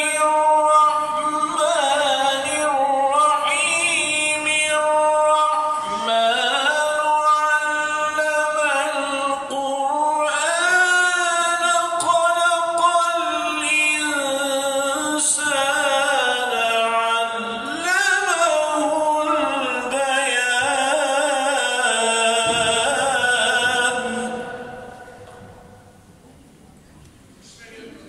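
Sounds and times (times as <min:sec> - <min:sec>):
man chanting melodically: 0:00.0 - 0:25.9.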